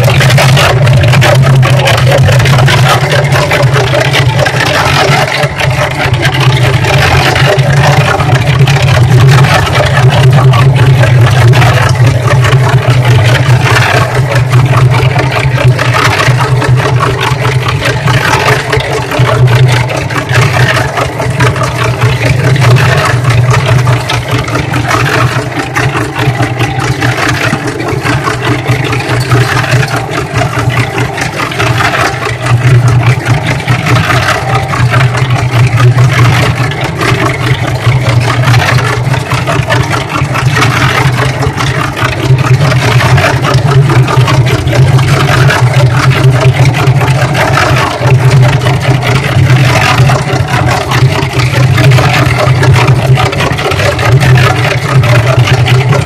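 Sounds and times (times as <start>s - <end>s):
cement mixer humming: 0.0s - 56.0s
soapy water sloshing: 0.0s - 56.0s.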